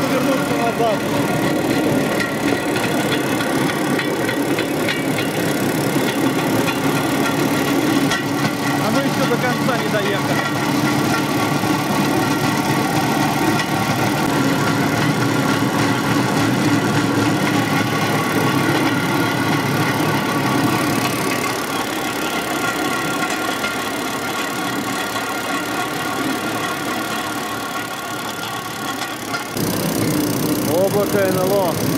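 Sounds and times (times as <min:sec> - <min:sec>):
small petrol engine running: 0:00.0 - 0:31.9
steel wheels rolling on rails: 0:00.0 - 0:31.9.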